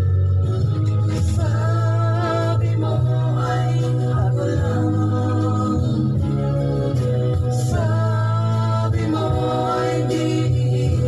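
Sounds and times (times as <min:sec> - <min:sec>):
bass accompaniment: 0:00.0 - 0:11.0.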